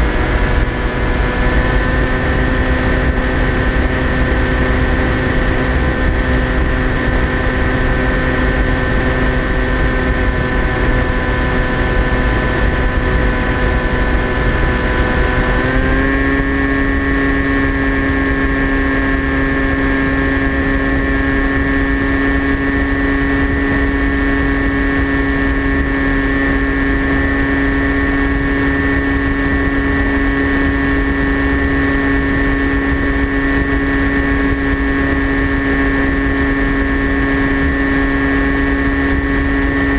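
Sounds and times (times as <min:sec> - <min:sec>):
electric motor and propeller drone: 0:00.0 - 0:39.9
rushing wind: 0:00.0 - 0:39.9.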